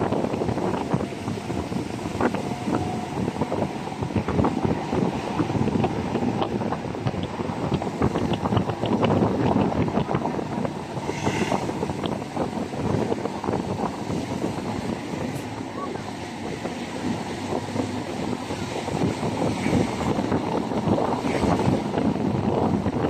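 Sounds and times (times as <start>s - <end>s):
vehicle engine and road noise: 0.0s - 23.0s
wind buffeting microphone: 0.0s - 23.0s.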